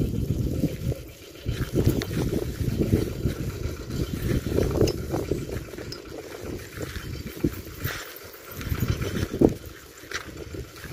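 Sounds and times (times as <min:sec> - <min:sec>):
footsteps on dirt path: 0:00.0 - 0:10.9
wind rumble on microphone: 0:00.0 - 0:10.9.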